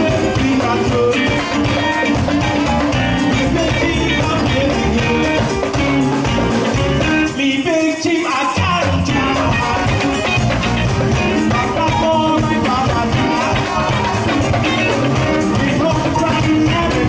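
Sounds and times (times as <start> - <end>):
trombone: 0.0 - 7.4, 8.8 - 17.0
bass: 0.0 - 17.0
drums: 0.0 - 17.0
electric guitar: 0.0 - 17.0
person singing: 0.0 - 17.0.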